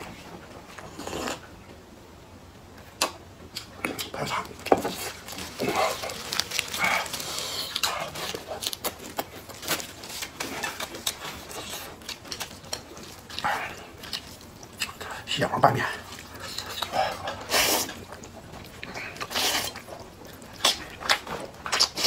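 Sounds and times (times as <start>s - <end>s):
wet chewing with mouth smacks: 2.8s - 22.0s
lettuce crunching: 3.0s - 22.0s.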